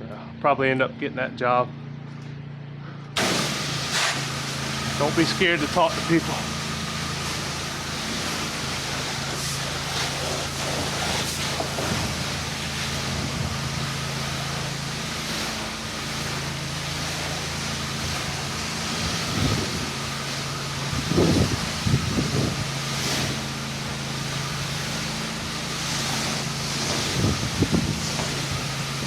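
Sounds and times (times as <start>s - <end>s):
pressure washer engine running: 3.2s - 29.0s
water spray hiss: 3.2s - 29.0s.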